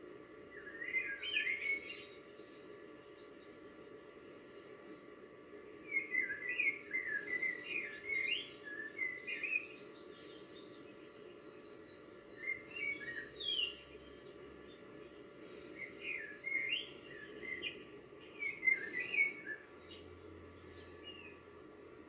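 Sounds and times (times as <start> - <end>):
low background hum: 0.0 - 22.0
songbird chirping: 0.4 - 22.0.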